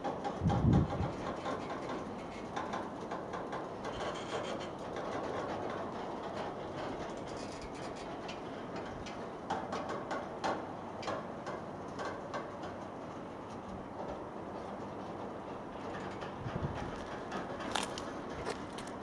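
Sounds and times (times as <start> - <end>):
clicks and clanks of wagons: 0.0 - 19.0
train wagons rumbling on rails: 0.0 - 19.0.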